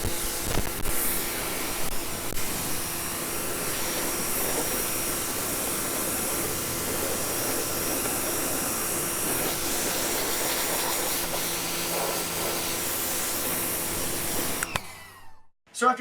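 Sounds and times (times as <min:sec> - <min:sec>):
high-pressure water spray hiss: 0:00.0 - 0:14.7
pressure washer motor: 0:00.0 - 0:15.5.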